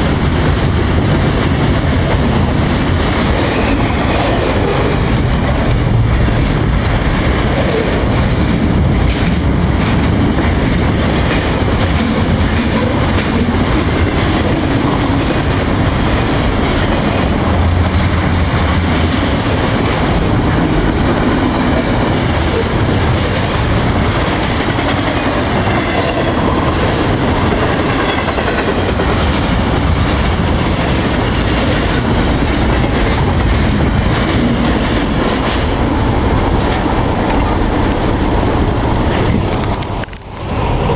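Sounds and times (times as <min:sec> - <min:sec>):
freight train wheels on rails: 0:00.0 - 0:40.9.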